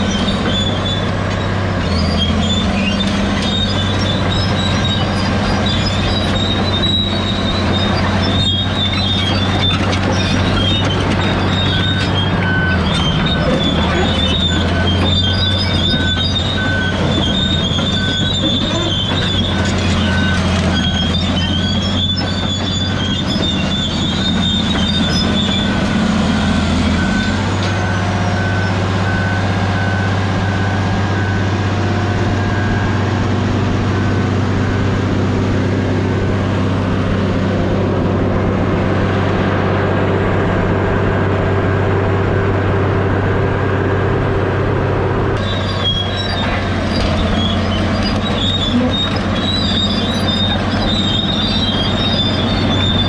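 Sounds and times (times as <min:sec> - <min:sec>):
metal squealing and clanking: 0:00.0 - 0:38.3, 0:45.2 - 0:53.0
diesel engine running: 0:00.0 - 0:53.0.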